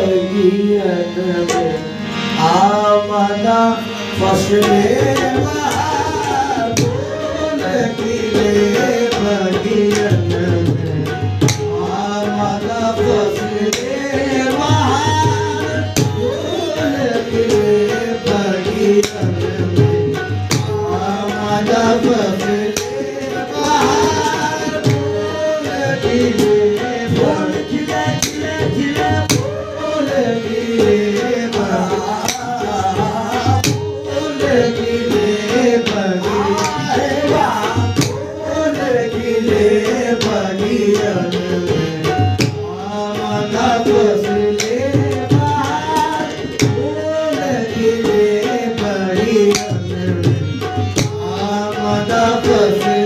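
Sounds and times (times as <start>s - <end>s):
harmonium: 0.0s - 53.0s
men singing together: 0.0s - 53.0s.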